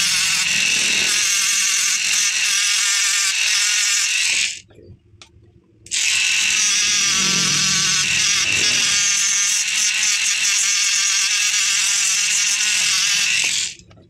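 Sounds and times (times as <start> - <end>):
rotary tool grinding whine: 0.0 - 4.6, 5.9 - 13.9.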